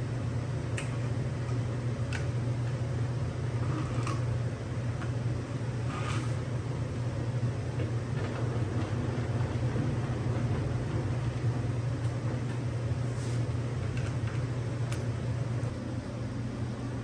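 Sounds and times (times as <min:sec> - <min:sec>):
machine motor low hum: 0:00.0 - 0:17.0.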